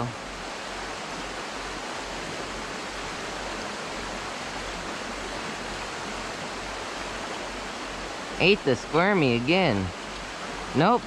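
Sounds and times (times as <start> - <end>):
creek water rushing over rocks: 0.0 - 11.0.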